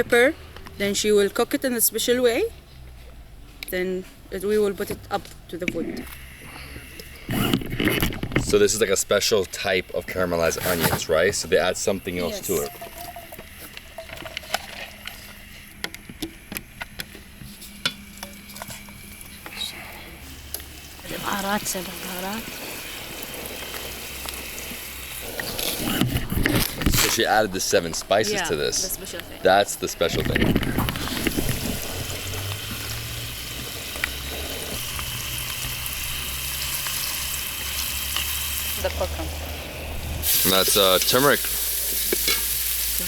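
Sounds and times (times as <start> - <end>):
onions crackling in a pot: 4.4 - 43.0.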